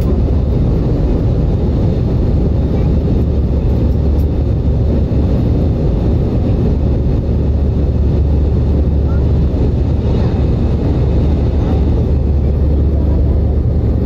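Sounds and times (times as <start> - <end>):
airplane cabin engine noise: 0.0 - 14.0.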